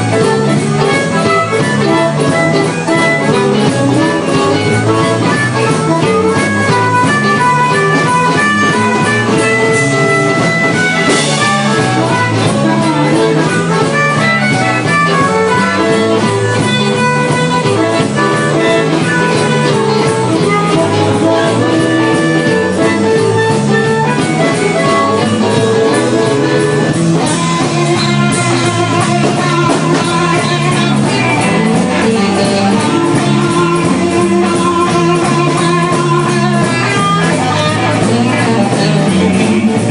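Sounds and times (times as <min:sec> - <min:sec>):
blues band playing: 0:00.0 - 0:39.9
electric guitar lines: 0:00.0 - 0:39.9.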